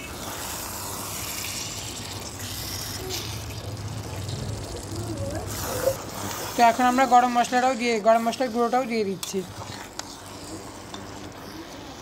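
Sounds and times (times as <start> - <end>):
fruit sizzling in oil: 0.0 - 12.0
spoon stirring in pan: 0.4 - 12.0.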